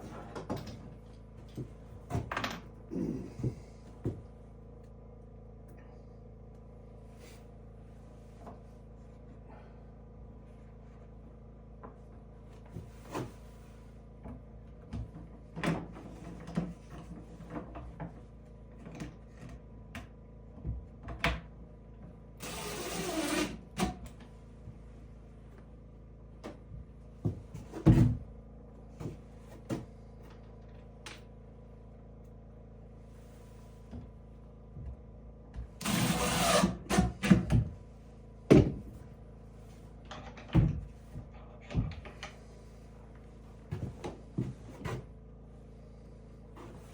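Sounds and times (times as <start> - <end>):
faint hum: 0.0 - 46.9.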